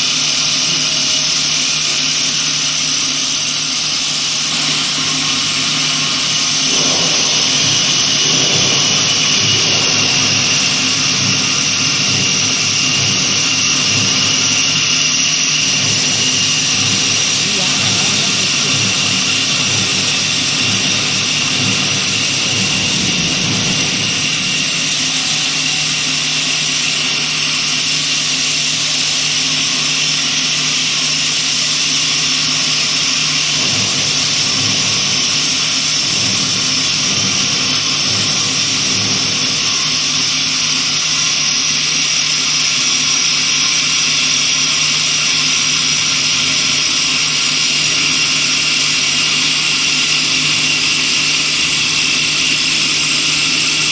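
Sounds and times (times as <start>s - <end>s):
wood lathe machine drone: 0.0s - 53.9s.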